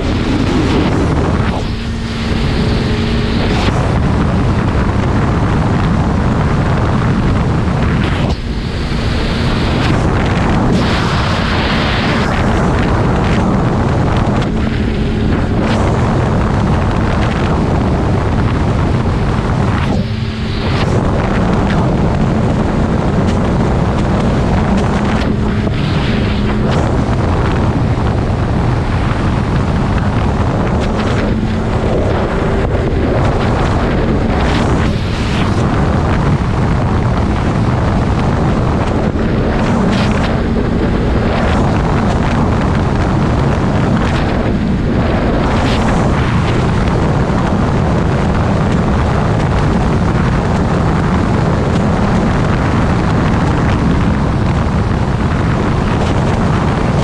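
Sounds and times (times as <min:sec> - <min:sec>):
snowmobile engine drone: 0:00.0 - 0:57.0
wind buffeting microphone: 0:00.0 - 0:57.0.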